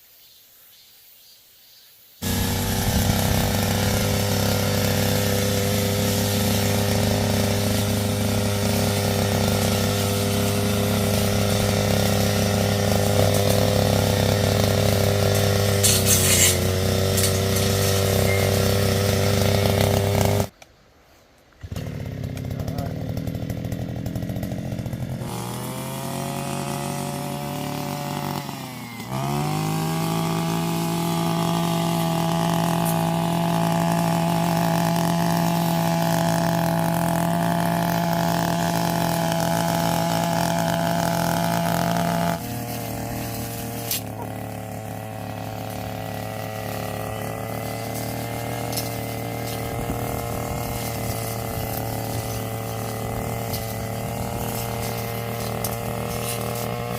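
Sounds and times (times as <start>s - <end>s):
two-stroke engine revving: 2.2s - 20.5s, 21.6s - 56.9s.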